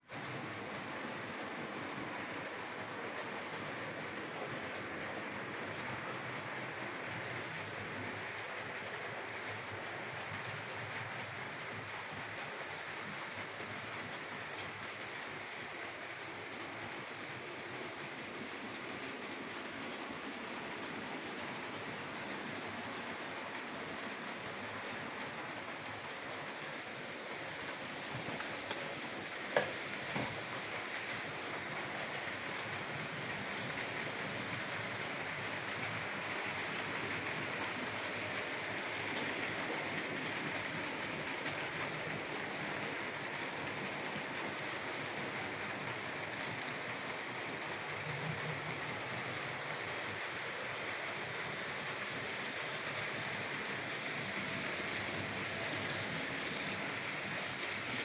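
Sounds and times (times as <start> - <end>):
model trains whirring on rails: 0.0 - 58.0.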